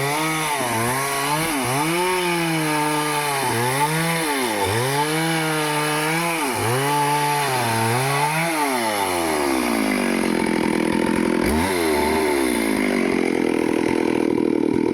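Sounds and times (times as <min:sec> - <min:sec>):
chainsaw cutting wood: 0:00.0 - 0:14.9.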